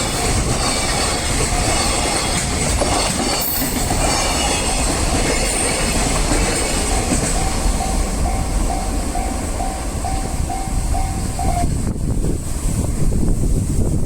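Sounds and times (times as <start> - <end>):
crossing warning bell ringing: 0.0 - 11.9
train rumbling past: 0.0 - 14.0.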